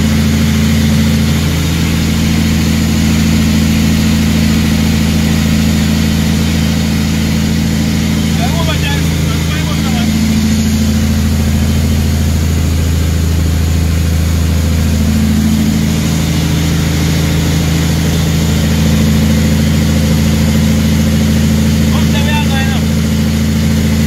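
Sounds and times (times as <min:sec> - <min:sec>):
truck diesel engine droning: 0:00.0 - 0:24.0.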